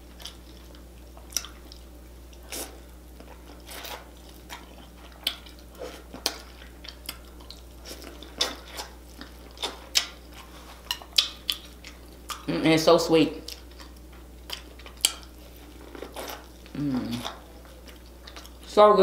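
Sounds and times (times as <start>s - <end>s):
person chewing corn on the cob: 0.0s - 12.6s, 13.4s - 18.7s.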